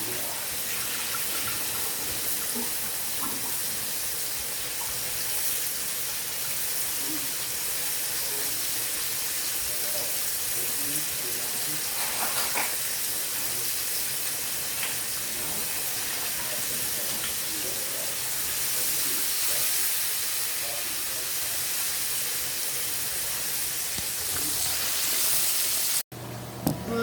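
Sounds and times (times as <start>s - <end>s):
food deep-frying in oil: 0.0s - 26.1s.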